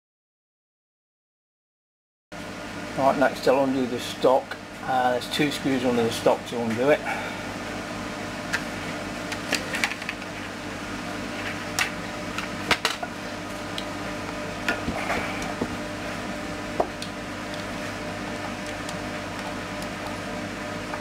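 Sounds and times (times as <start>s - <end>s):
steady low hum: 2.4s - 21.0s.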